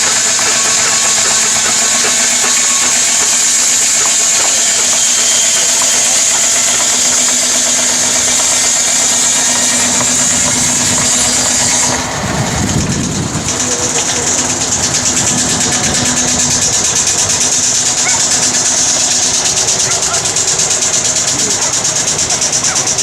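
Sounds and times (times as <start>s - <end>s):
machinery engine running: 0.0s - 23.0s
rapid rattle: 0.0s - 23.0s
strong hiss: 0.0s - 23.0s.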